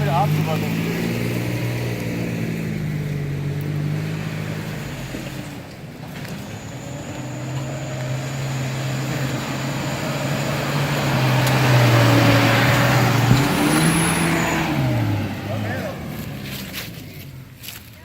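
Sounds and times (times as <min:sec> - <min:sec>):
suv engine pulling under load: 0:00.0 - 0:18.0.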